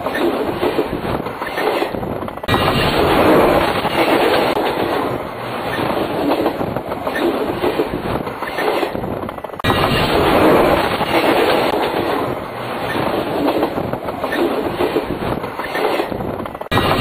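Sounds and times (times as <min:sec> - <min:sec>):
railway wheels clattering overhead: 0:00.0 - 0:17.0.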